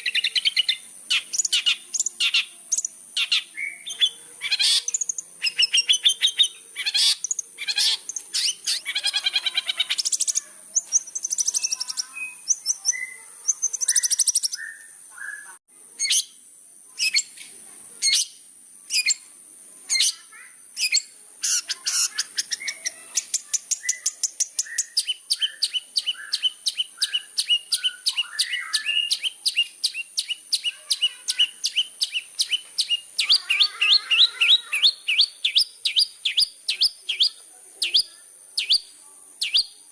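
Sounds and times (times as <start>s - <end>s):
shrike singing varied song: 0.0s - 39.9s.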